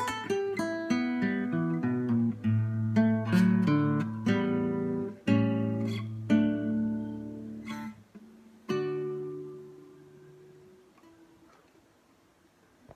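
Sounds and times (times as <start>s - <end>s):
strummed acoustic guitar chords: 0.0s - 11.2s.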